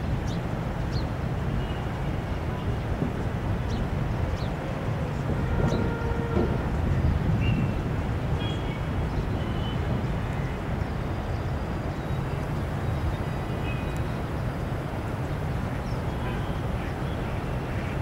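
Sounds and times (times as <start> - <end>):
distant city traffic rumble: 0.0 - 18.0
wind on microphone: 0.0 - 18.0.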